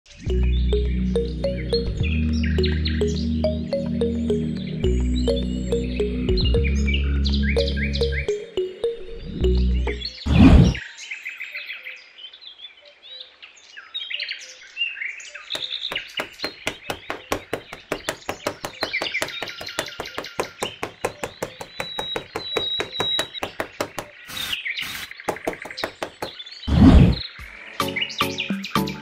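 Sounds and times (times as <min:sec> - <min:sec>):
birds chirping: 0:00.1 - 0:10.9, 0:14.3 - 0:29.0.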